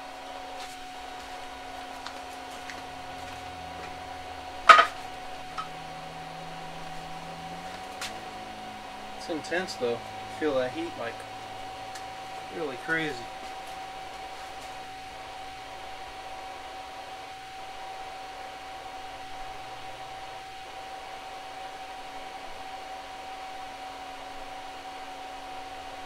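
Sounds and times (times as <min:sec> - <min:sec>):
cooling fans whirring: 0:00.0 - 0:26.0
thin whine: 0:00.0 - 0:26.0.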